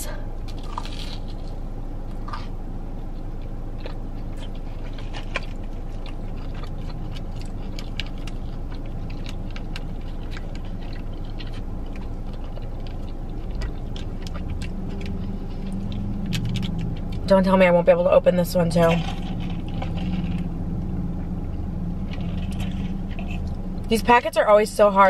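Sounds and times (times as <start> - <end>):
steady low hum: 0.0 - 25.0
person chewing: 0.1 - 17.3, 18.8 - 23.9.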